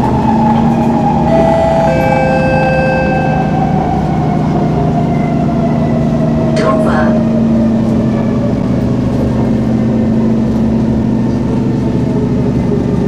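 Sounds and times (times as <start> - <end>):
train rumbling in motion: 0.0 - 13.0.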